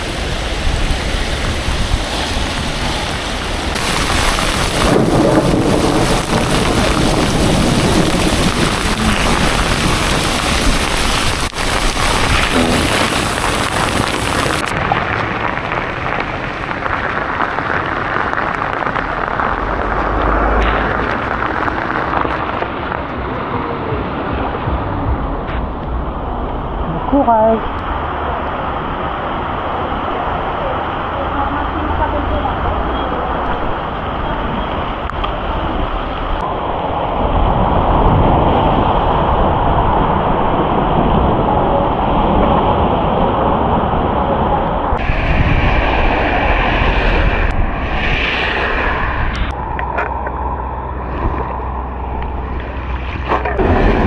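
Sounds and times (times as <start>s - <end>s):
low thunder rumble: 0.0s - 27.8s, 32.0s - 54.0s
heavy rain pouring: 0.0s - 54.0s.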